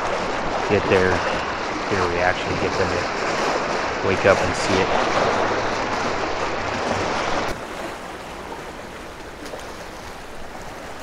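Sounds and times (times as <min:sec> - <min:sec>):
surf washing against rocks: 0:00.0 - 0:11.0
wind on microphone: 0:00.0 - 0:11.0.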